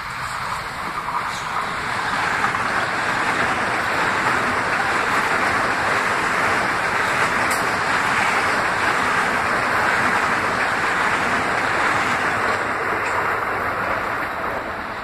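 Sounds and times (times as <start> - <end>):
train wheels rushing on rails: 0.0 - 15.0.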